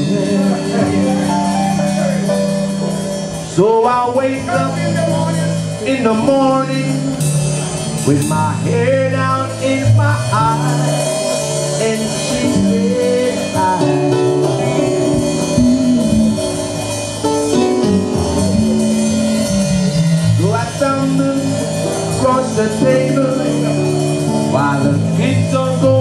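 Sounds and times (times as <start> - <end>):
man singing: 0.0 - 2.5, 3.4 - 16.8, 19.4 - 26.0
bass line: 0.0 - 26.0
guitar: 0.0 - 26.0
live reggae band: 0.0 - 26.0.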